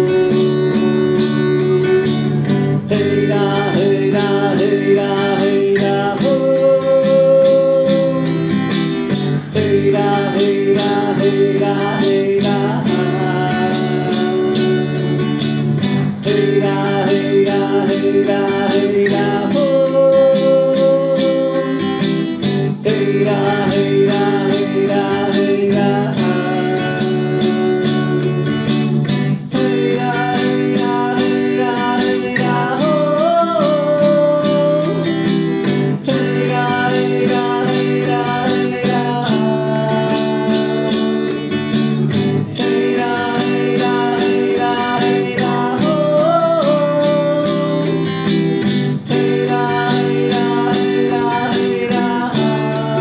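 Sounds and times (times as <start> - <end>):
strummed acoustic guitar: 0.0 - 53.0.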